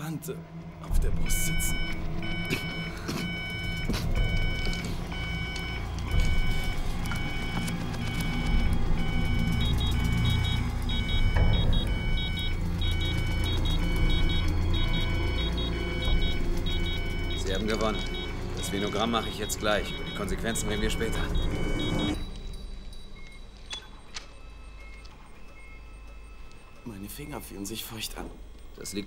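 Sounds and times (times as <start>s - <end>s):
patient monitor alarm beeping: 0.5s - 29.0s
fast high double-beep alarm: 0.9s - 29.0s.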